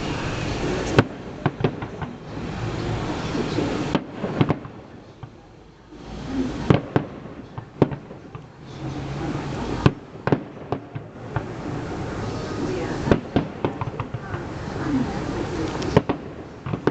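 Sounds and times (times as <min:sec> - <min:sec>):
fireworks bangs: 0:00.0 - 0:16.9.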